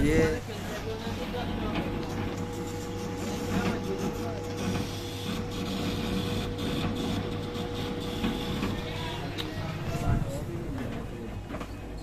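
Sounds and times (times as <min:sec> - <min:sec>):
laser cutter hum: 0:00.0 - 0:11.5
stepper motors whirring: 0:00.0 - 0:12.0.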